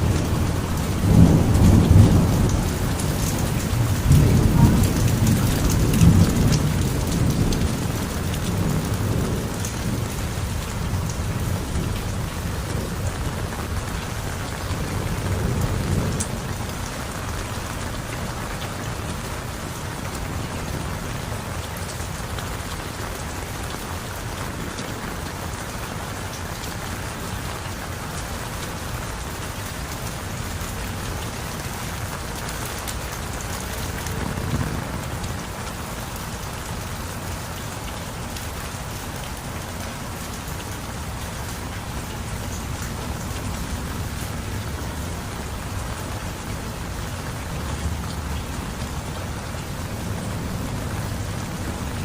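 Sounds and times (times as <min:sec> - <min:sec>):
heavy rain splashing: 0:00.0 - 0:52.0.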